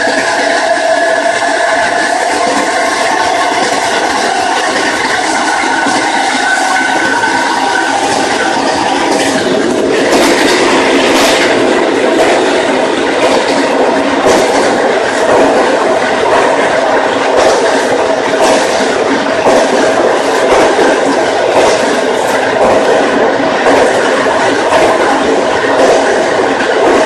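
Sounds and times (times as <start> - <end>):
train wheels and motor rumble: 0.0 - 27.0
wheels clacking over rail joints: 0.0 - 27.0.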